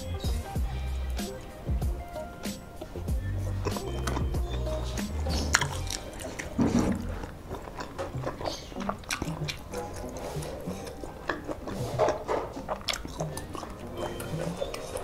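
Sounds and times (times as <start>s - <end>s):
quiet background music: 0.0s - 15.0s
wet chewing and mouth smacks: 1.1s - 15.0s.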